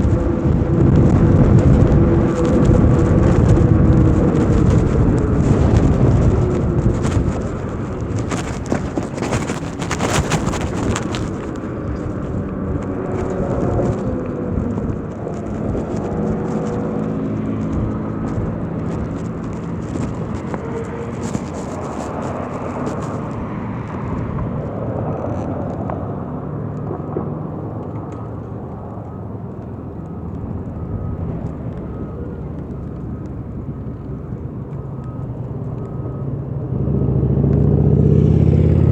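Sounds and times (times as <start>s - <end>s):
crackling: 0.0s - 36.6s
wind rushing over microphone: 0.0s - 38.9s.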